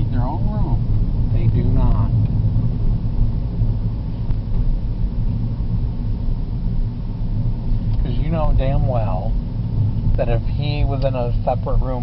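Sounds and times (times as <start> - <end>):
car driving rumble from inside: 0.0 - 12.0.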